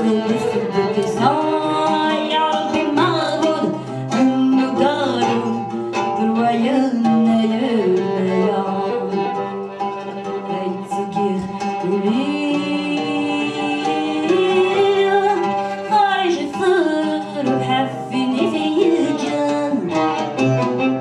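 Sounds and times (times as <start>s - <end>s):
person singing: 0.0s - 20.4s
plucked and bowed strings: 0.0s - 21.0s.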